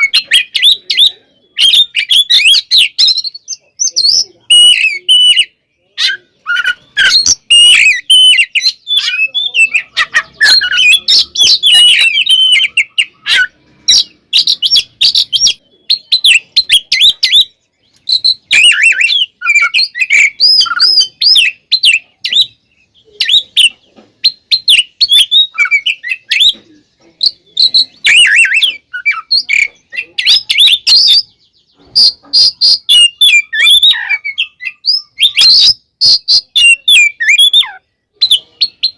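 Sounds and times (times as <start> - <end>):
bird singing loudly: 0.0 - 38.9.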